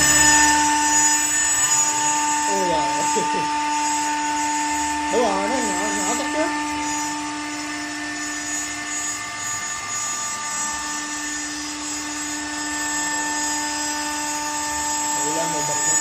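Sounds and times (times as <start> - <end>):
low running hum: 0.0 - 16.0
spindle motor whine: 0.0 - 16.0.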